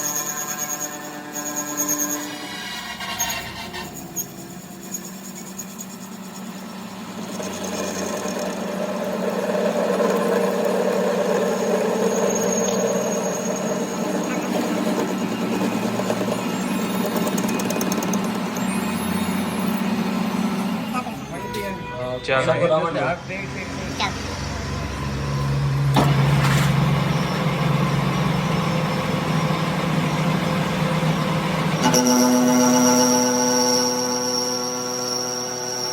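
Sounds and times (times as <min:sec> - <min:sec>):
machine humming: 0:00.0 - 0:21.4, 0:23.2 - 0:35.9
large engine idling: 0:02.5 - 0:31.9.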